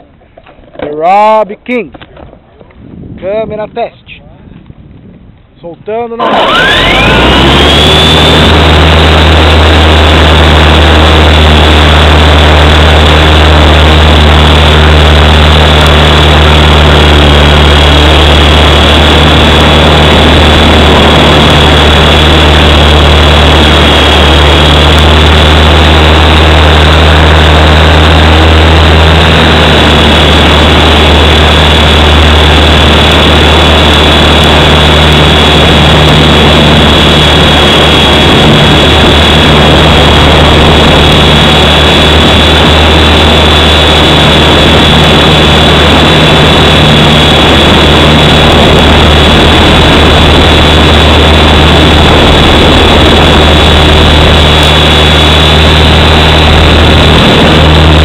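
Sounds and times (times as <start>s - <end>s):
high motor whine: 0.0s - 58.0s
deep rotor hum: 1.2s - 58.0s
rushing rotor wash: 6.2s - 58.0s.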